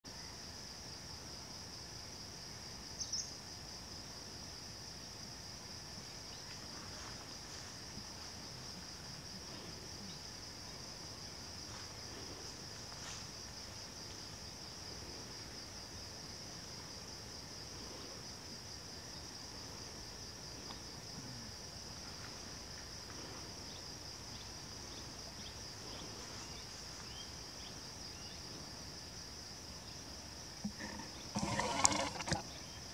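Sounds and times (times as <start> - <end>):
insect chirring: 6.0 - 32.9.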